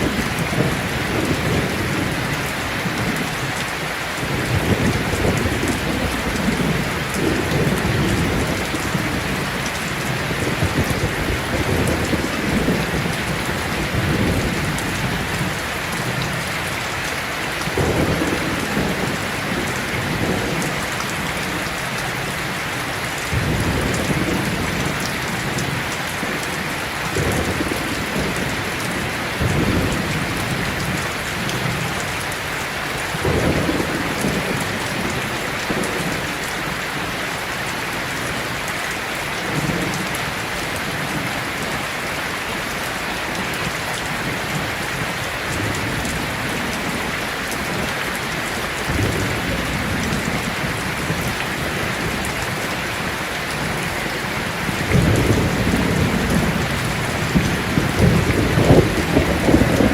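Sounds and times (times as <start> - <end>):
heavy rain: 0.0 - 59.9
thunder rumbling: 4.2 - 17.0, 17.6 - 22.6, 23.3 - 37.1, 42.6 - 59.9.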